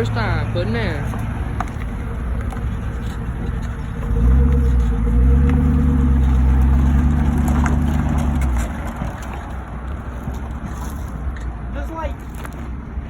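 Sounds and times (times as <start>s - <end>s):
vehicle engine revving: 0.0s - 11.2s.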